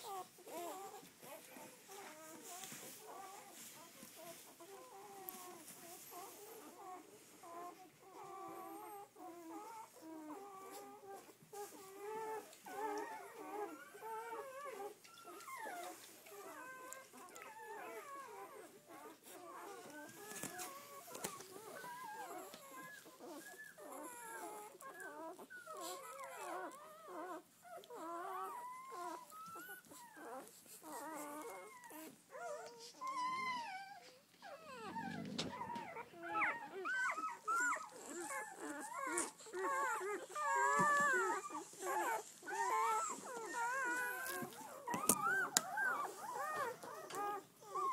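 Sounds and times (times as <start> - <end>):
puppies squeaking and whimpering: 0.0 - 47.9.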